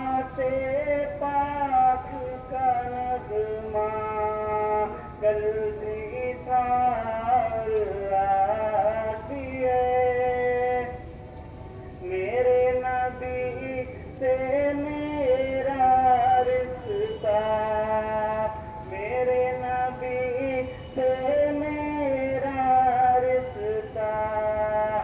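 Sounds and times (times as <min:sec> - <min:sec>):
person singing devotional song: 0:00.0 - 0:25.0.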